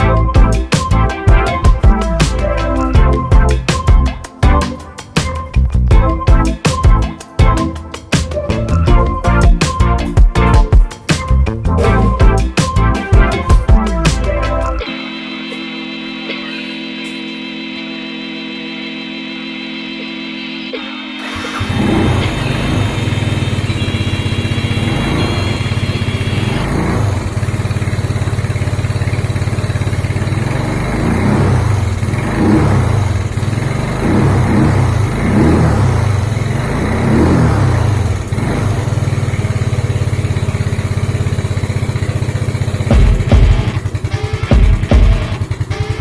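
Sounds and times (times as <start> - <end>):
scooter engine idling: 0.0 - 14.9, 21.3 - 46.0.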